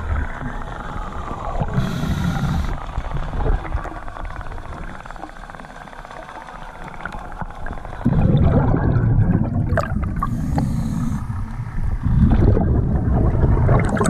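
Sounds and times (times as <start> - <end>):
underwater air bubbles rumbling: 0.0 - 14.0.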